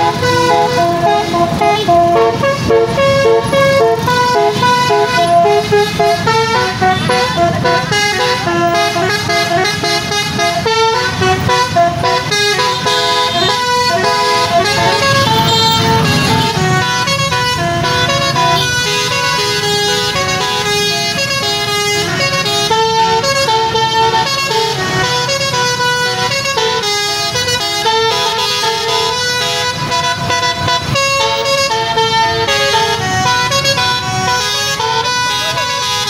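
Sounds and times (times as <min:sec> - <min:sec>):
musical air horn playing a tune: 0:00.0 - 0:36.0
traffic rumble: 0:00.0 - 0:36.0.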